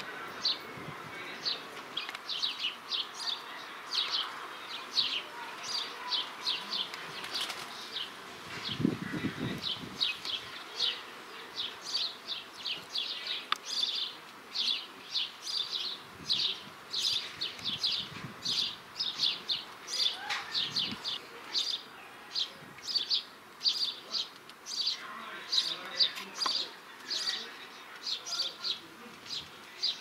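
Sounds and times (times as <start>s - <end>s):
sparrow chirping: 0.0s - 30.0s.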